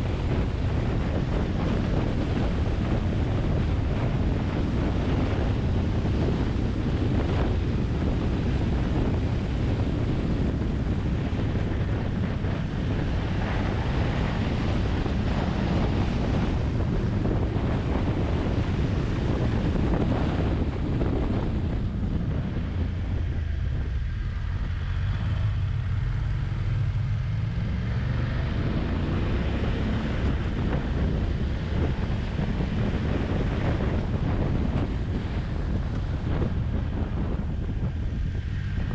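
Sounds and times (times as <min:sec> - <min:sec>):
motorcycle engine rumble: 0:00.0 - 0:38.9
wind buffeting microphone: 0:00.0 - 0:38.9.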